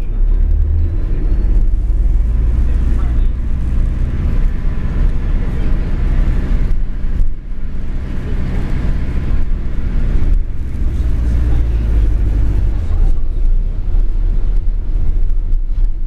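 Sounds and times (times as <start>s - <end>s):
bus engine drone: 0.0s - 16.0s
road rumble: 0.0s - 16.0s.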